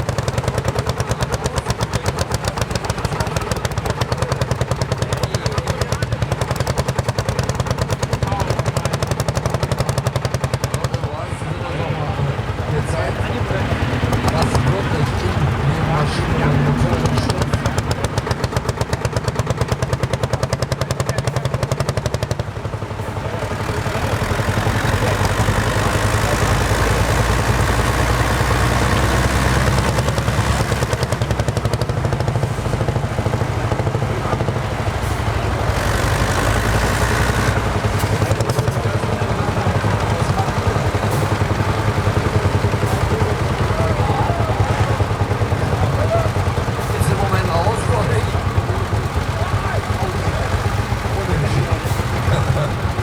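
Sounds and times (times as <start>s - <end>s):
tractor engines running under load: 0.0s - 53.0s.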